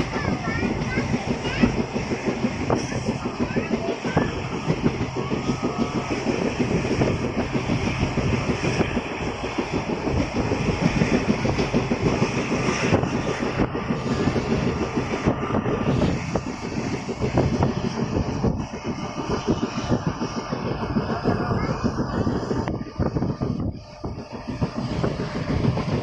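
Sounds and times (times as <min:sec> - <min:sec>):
train rumbling and rattling: 0:00.0 - 0:26.0.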